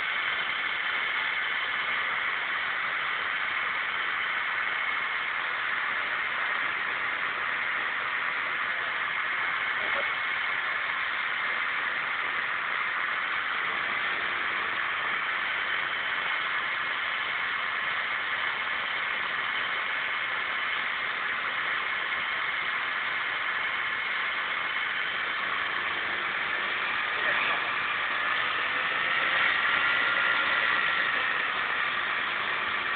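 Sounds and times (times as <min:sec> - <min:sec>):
motorbike engine at high revs: 0:04.7 - 0:19.9, 0:20.7 - 0:32.9.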